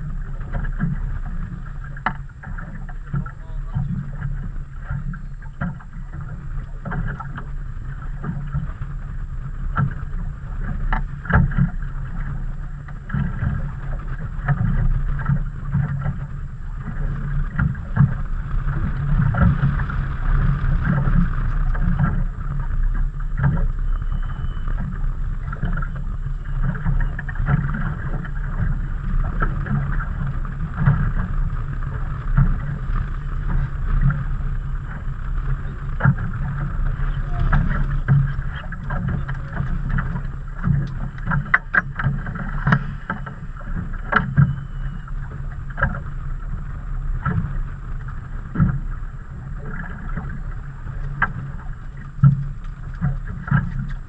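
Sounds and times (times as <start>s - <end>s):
water slapping against boat hull: 0.0s - 54.0s.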